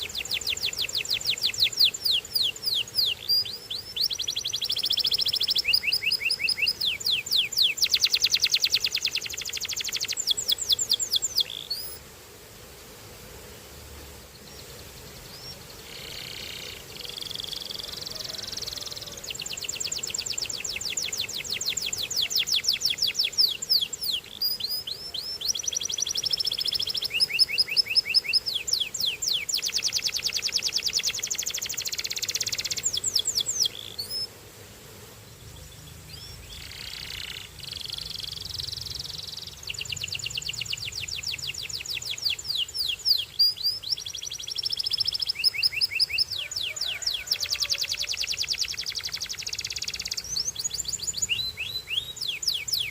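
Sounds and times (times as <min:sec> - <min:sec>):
canary singing trills: 0:00.0 - 0:12.0, 0:14.4 - 0:34.3, 0:35.6 - 0:52.9.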